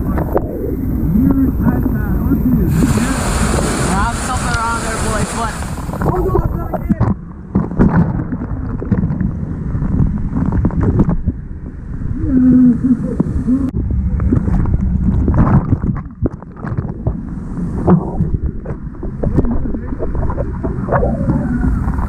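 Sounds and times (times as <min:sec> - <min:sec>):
wind buffeting microphone: 0:00.0 - 0:22.0
water splashing and rushing: 0:01.1 - 0:11.0, 0:13.6 - 0:22.0.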